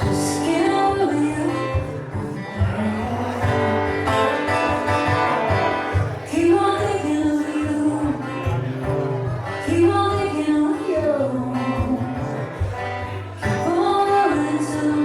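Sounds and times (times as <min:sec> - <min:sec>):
guitar with bending notes: 0:00.0 - 0:15.0.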